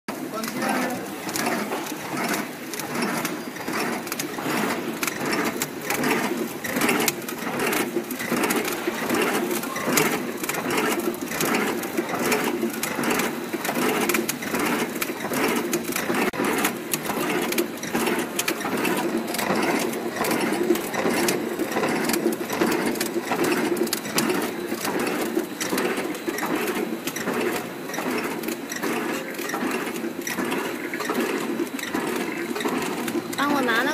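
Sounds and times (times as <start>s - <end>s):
machine clicking rapidly: 0.1s - 33.9s.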